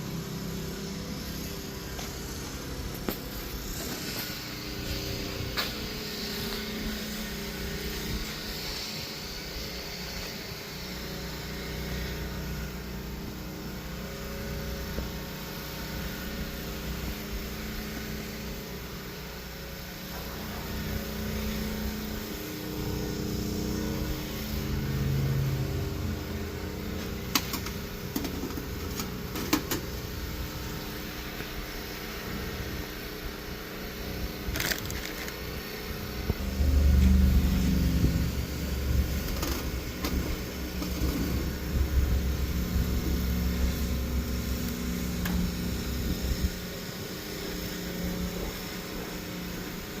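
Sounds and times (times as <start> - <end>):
machine humming: 0.0 - 50.0.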